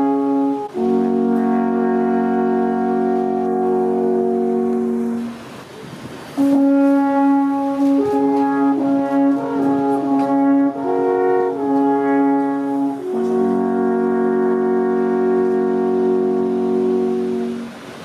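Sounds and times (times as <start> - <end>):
alphorns playing in harmony: 0.0 - 18.0.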